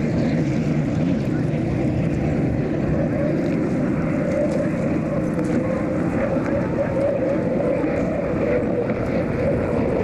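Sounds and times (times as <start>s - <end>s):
faint wavering whine: 0.0s - 10.0s
heavy boat engine drone: 0.0s - 10.0s.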